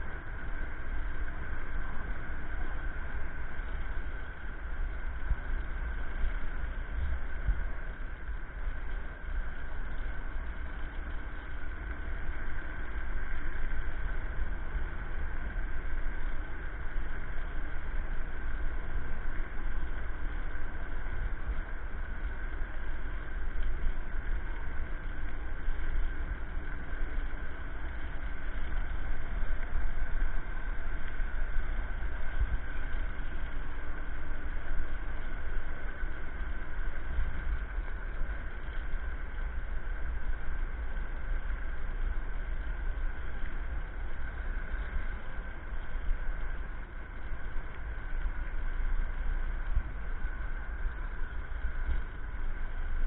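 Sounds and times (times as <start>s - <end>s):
wind and tyre rumble: 0.0s - 53.0s.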